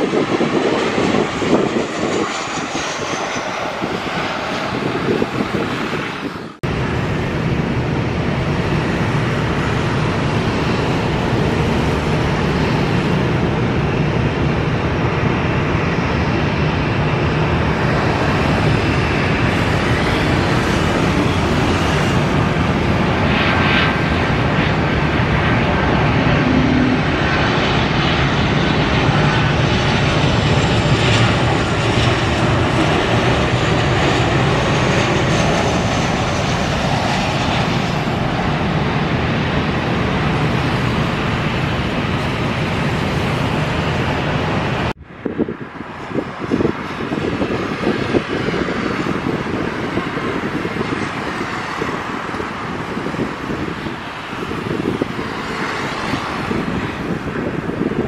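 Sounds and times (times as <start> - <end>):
jet engine rumble: 0.0 - 58.0.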